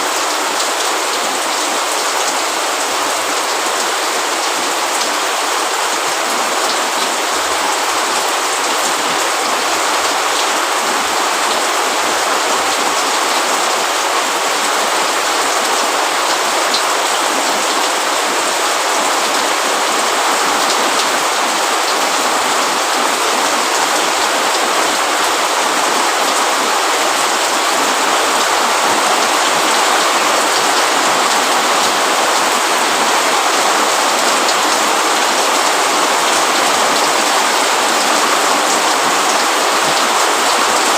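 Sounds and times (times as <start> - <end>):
rain on roof and leaves: 0.0 - 40.9.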